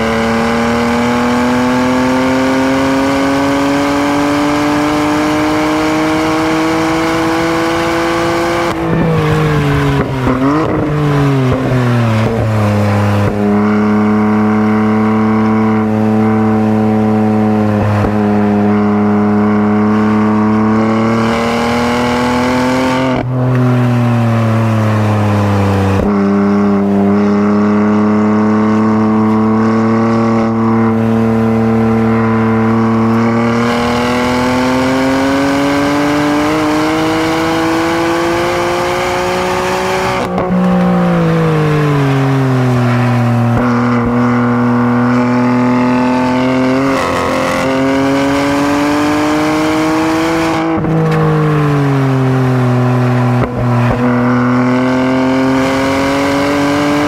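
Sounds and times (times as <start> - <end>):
car engine and exhaust revving: 0.0 - 57.0.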